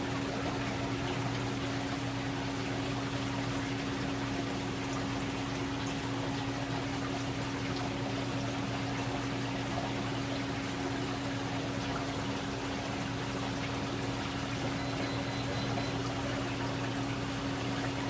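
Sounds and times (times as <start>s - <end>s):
aquarium pump humming: 0.0s - 18.0s
moving water: 0.0s - 18.0s.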